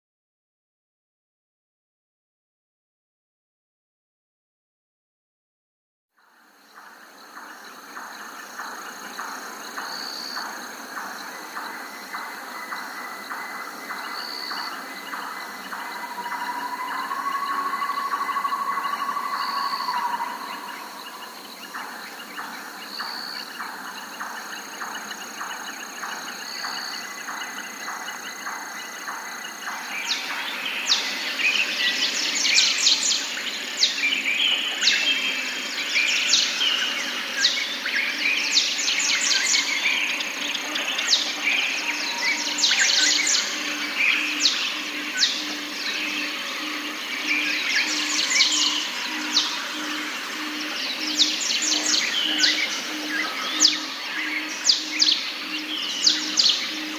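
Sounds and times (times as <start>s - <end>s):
chorus of birds chirping: 6.2s - 56.9s.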